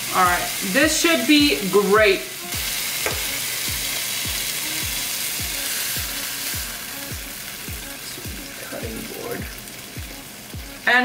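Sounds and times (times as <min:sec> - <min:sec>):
background music with steady beat: 0:00.0 - 0:11.0
steak sizzling in skillet: 0:00.0 - 0:11.0.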